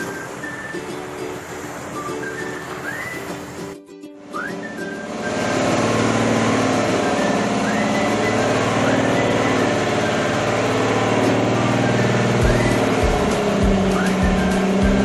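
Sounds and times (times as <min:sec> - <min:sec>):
boat engine running: 0:00.0 - 0:03.6, 0:04.4 - 0:15.0.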